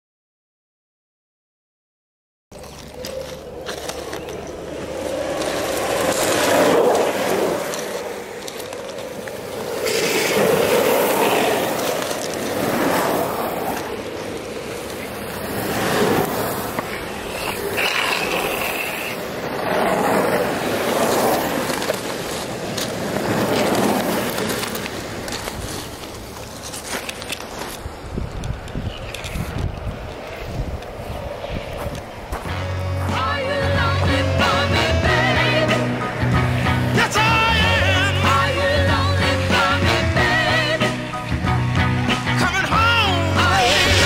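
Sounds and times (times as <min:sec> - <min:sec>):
longboard wheels rolling on asphalt: 0:02.5 - 0:44.0.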